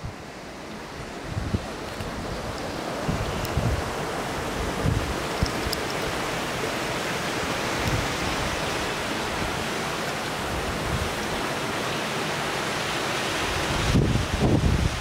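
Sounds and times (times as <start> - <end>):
water rushing through rock gorge: 0.1 - 15.0.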